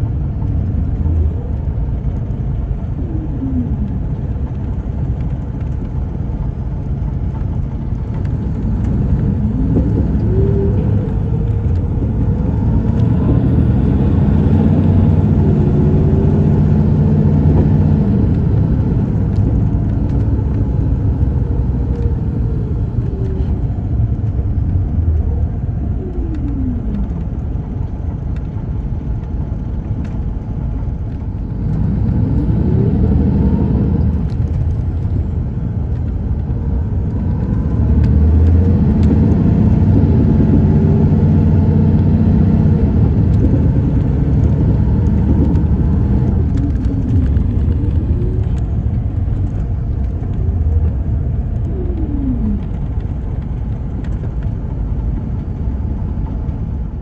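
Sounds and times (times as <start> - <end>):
bus diesel engine pulling: 0.0 - 57.0.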